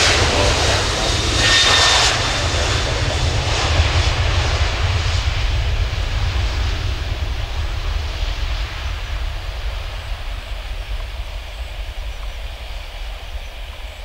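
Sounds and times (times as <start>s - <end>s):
jet engines roaring at takeoff: 0.0s - 14.0s.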